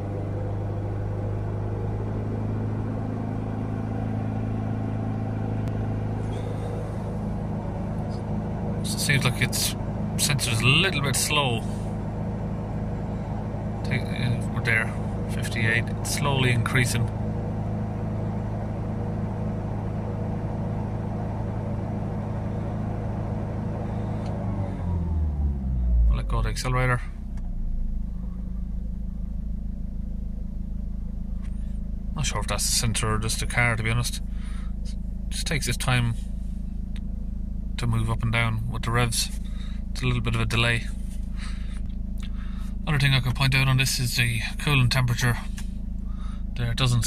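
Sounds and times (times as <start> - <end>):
diesel engine running steadily: 0.0 - 47.0.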